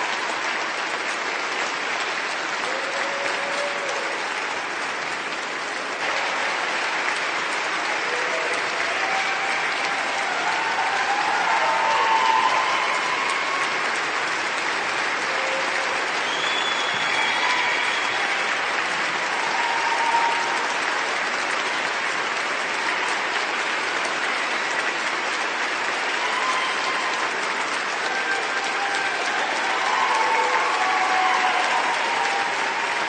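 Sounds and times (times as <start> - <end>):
crowd applauding: 0.0 - 33.0.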